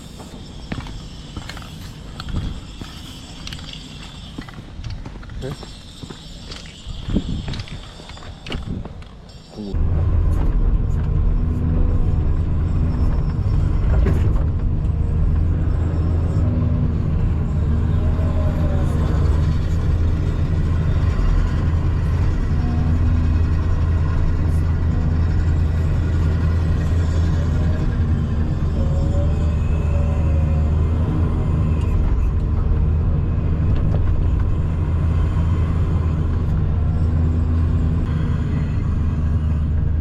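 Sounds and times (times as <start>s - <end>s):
diesel engine low rumble: 0.0s - 40.0s.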